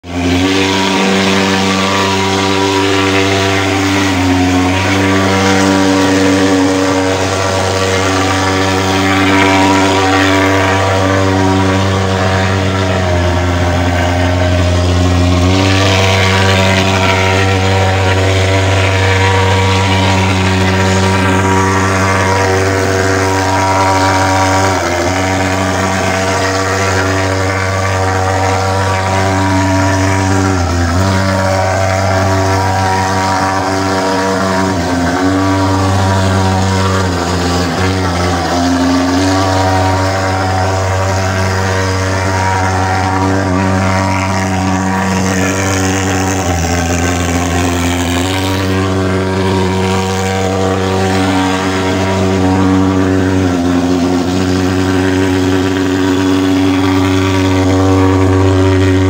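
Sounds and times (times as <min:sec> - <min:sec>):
thermal fogging machine buzzing: 0:00.0 - 0:59.0.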